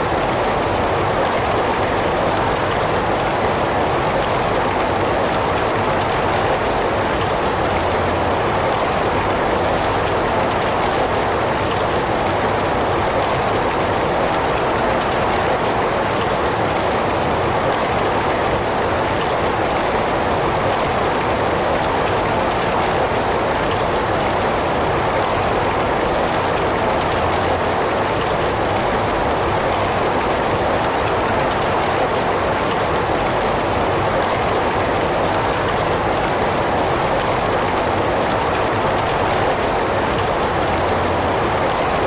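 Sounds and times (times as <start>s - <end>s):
heavy rain downpour: 0.0s - 42.0s.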